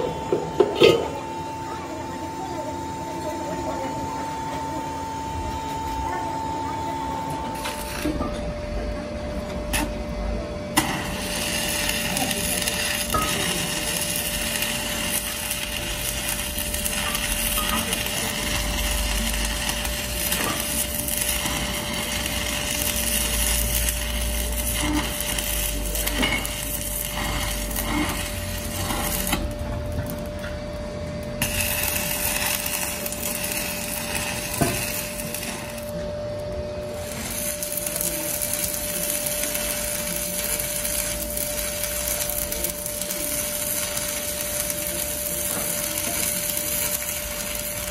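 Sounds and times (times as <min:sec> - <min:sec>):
steady hum: 0:00.0 - 0:47.9
welding arc crackling: 0:04.5 - 0:47.9.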